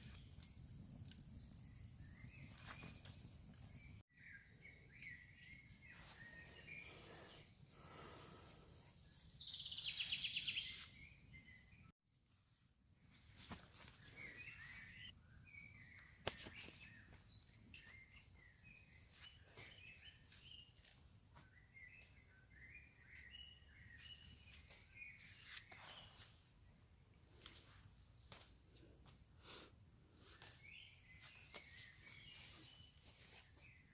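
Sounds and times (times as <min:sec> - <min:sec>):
small birds chirping: 0:00.0 - 0:11.9, 0:13.4 - 0:33.9.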